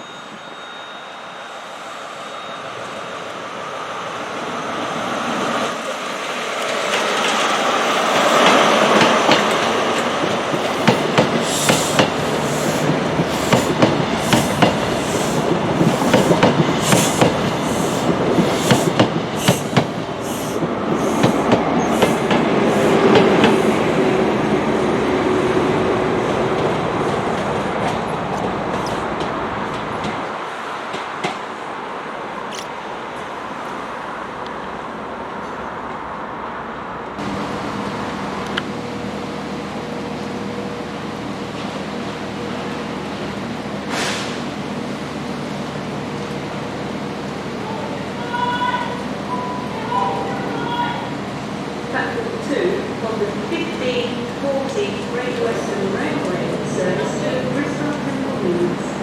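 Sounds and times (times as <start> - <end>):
train passing: 0.0 - 59.0.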